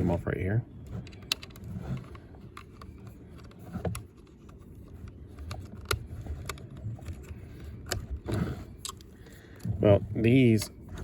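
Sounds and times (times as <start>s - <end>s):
low rumble of handling: 0.0s - 11.0s.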